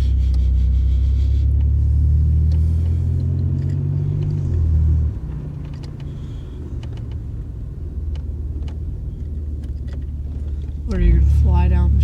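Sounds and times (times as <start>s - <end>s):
car engine droning inside car: 0.0s - 12.0s.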